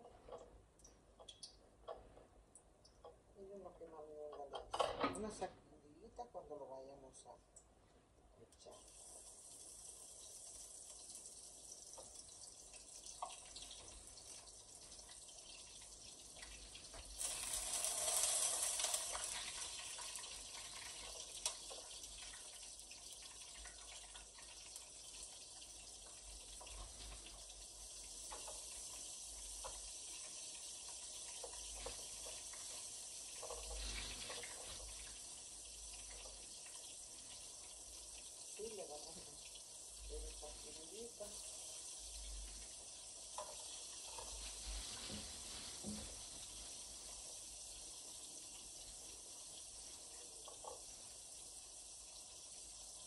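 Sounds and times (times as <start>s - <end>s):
fish frying in sizzling oil: 8.6s - 53.0s.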